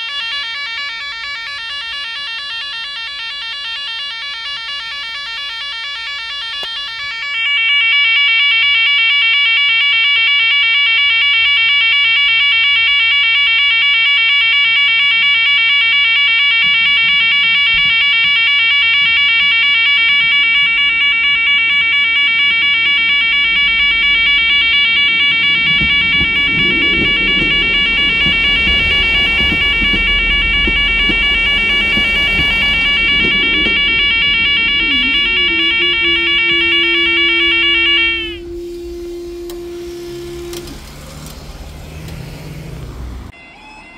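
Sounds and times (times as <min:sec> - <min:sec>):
level crossing alarm warbling: 0:00.0 - 0:43.9
train rumbling over crossing: 0:00.0 - 0:43.9.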